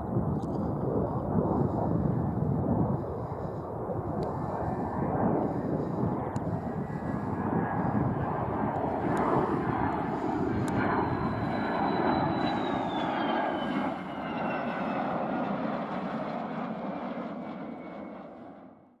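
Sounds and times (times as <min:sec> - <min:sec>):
jet engine rushing and whining: 0:00.0 - 0:18.8.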